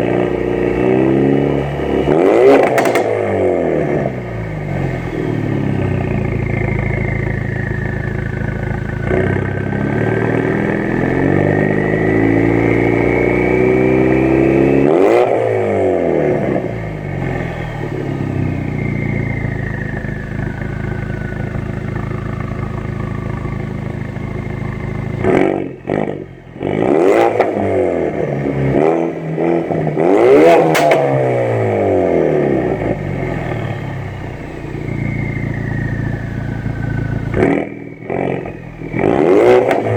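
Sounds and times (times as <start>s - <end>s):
car engine revving: 0.0s - 39.9s
exhaust cracks: 1.7s - 13.8s, 16.2s - 39.9s.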